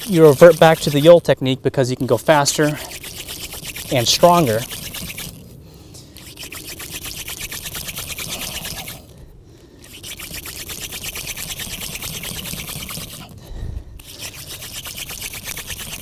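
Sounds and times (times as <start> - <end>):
wooden spindle grinding whirr: 0.0 - 1.3, 2.0 - 5.5, 6.1 - 9.2, 9.8 - 16.0.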